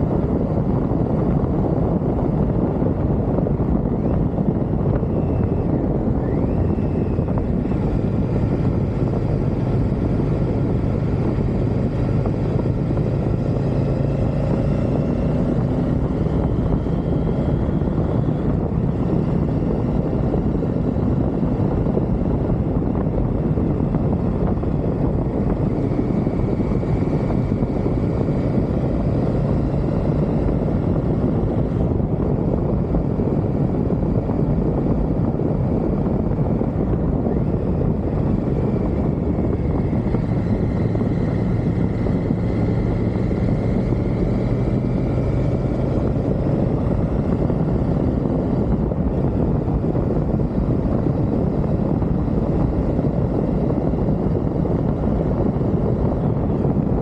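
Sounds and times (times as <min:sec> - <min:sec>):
motorcycle engine running: 0:00.0 - 0:57.0
road noise: 0:00.0 - 0:57.0
wind rushing: 0:00.0 - 0:57.0.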